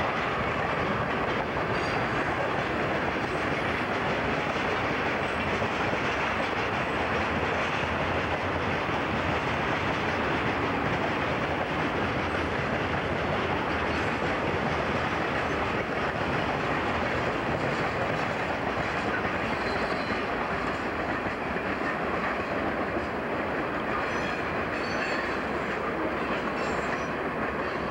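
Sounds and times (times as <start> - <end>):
clickety-clack over rail joints: 0.0 - 27.9
freight train rolling past: 0.0 - 27.9.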